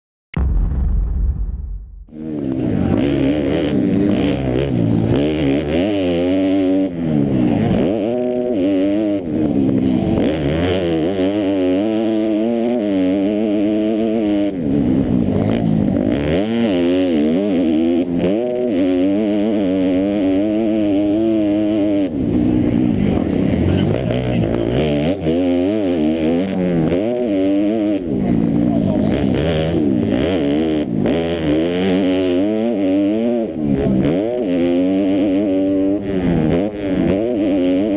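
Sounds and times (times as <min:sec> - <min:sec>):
motocross bike engine revving: 0:02.1 - 0:37.9.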